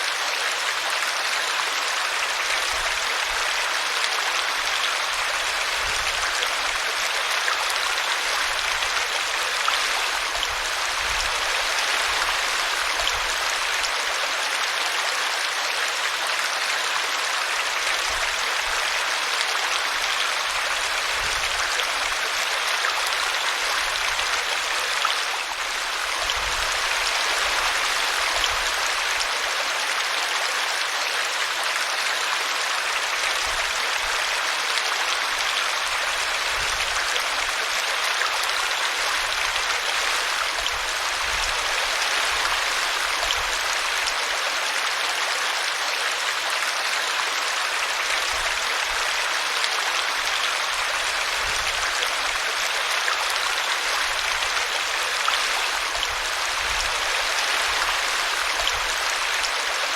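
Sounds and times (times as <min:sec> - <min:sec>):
brook running: 0:00.0 - 0:59.9.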